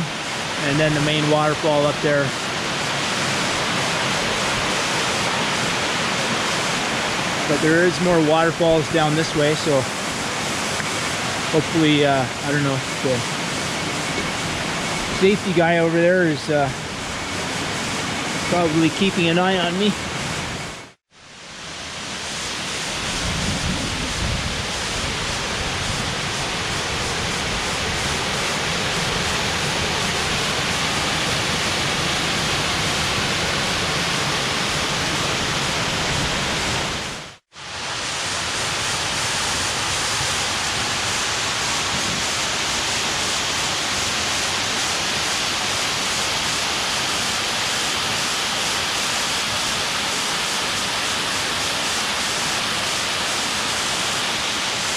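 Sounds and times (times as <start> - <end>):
waterfall rushing: 0.0 - 20.1, 21.4 - 54.9.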